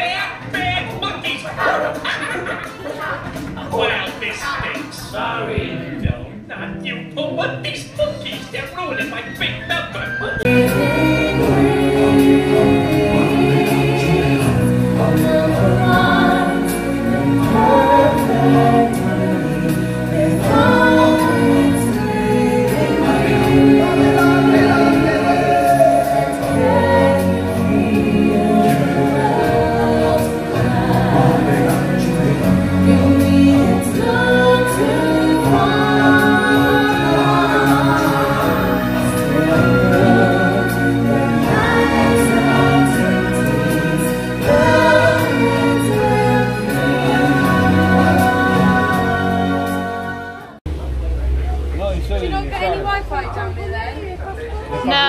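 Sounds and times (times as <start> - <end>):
choir and singers performing upbeat song: 0.0 - 50.6
musical backing: 0.0 - 55.0.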